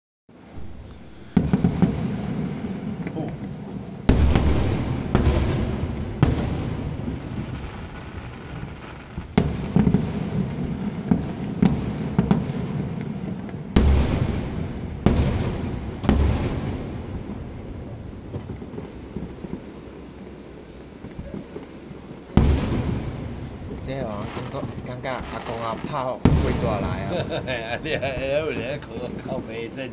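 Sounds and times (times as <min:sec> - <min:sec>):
fireworks banging: 0:00.3 - 0:29.9
small firework pops: 0:00.7 - 0:29.9.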